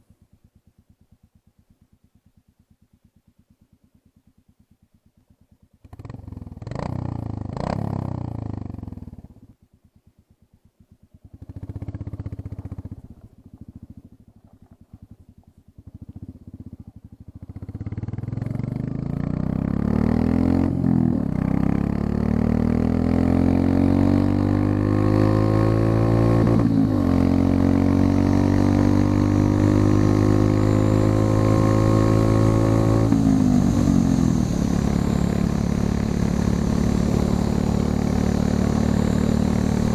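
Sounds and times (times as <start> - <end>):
motorcycle accelerating through gears: 5.8 - 9.5, 11.2 - 39.9
motorcycle engine revving: 5.8 - 9.6, 11.1 - 39.9.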